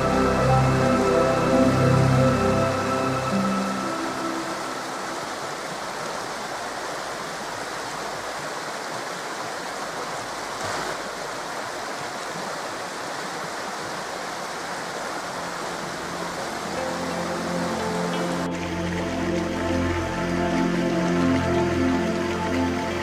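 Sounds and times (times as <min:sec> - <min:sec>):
rush of flowing water: 0:00.0 - 0:23.0.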